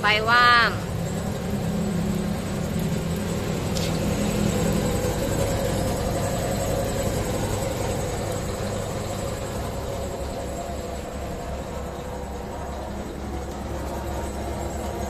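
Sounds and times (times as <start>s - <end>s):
bread slicer motor humming: 0.8s - 15.0s.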